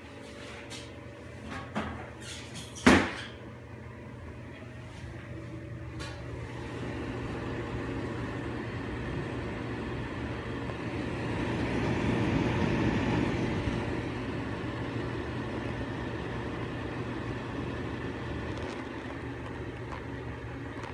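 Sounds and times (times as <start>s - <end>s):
exhaust fan whoosh and hum: 0.0s - 20.9s.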